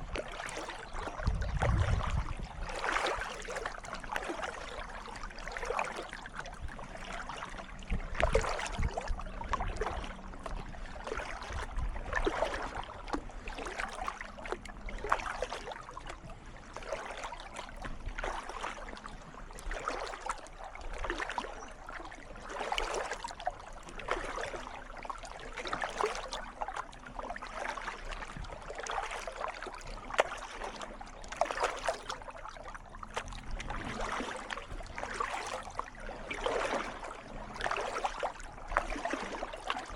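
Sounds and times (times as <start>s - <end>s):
hull moving through water: 0.0s - 39.9s
paddle strokes splashing and dripping: 0.0s - 39.9s.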